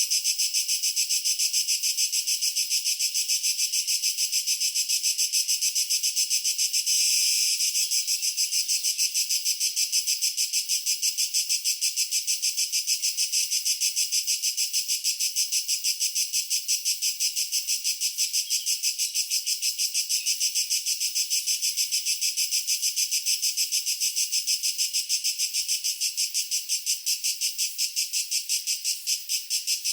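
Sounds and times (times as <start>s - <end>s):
tree cricket calling: 0.0s - 29.9s.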